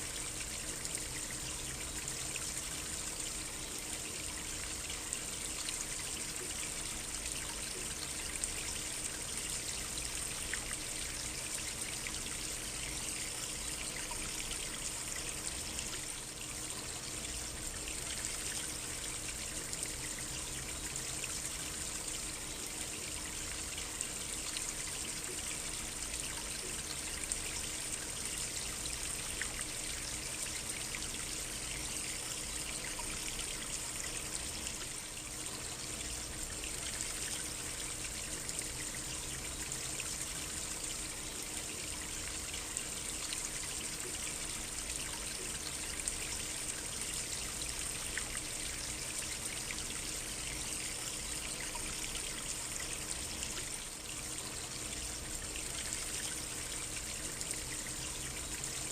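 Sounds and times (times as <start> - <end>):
small stream trickling: 0.0 - 58.9.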